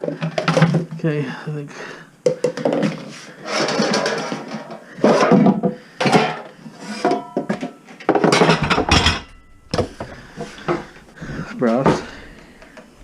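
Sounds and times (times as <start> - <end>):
household objects clattering: 0.0 - 1.3, 2.2 - 13.0.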